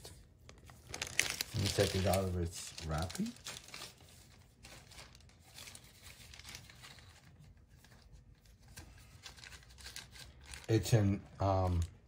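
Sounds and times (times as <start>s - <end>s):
plastic bag crinkling: 0.0s - 7.5s, 9.0s - 12.0s.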